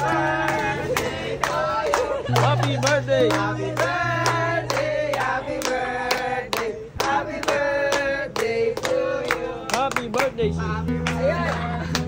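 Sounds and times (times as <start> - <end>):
group clapping a steady beat: 0.0 - 12.0
voices singing: 0.0 - 12.0.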